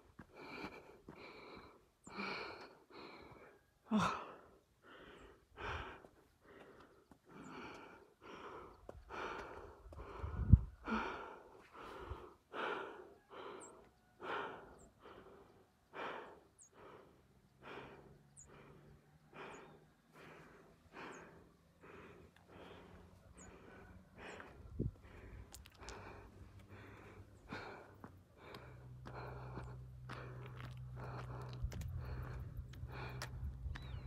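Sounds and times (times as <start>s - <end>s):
runner breathing hard: 0.0s - 34.0s.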